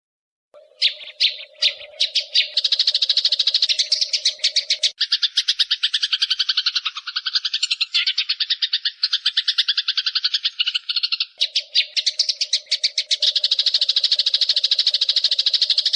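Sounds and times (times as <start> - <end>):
songbird chirping and chattering: 0.6 - 15.9.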